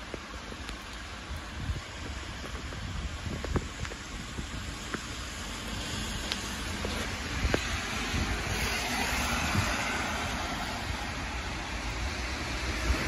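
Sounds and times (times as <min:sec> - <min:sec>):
car tyres hissing on wet road: 0:00.0 - 0:13.0
rain falling: 0:00.0 - 0:13.0.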